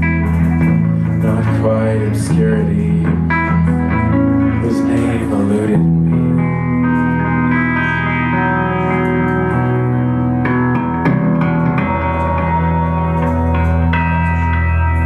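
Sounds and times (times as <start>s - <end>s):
live guitar sustained chords: 0.0s - 15.0s
plucked guitar notes: 0.0s - 15.0s.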